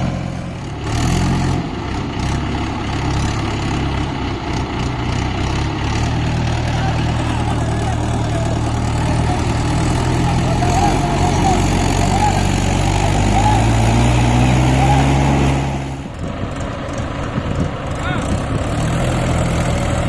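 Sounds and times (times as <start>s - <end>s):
tractor diesel engine at low revs: 0.0s - 20.0s.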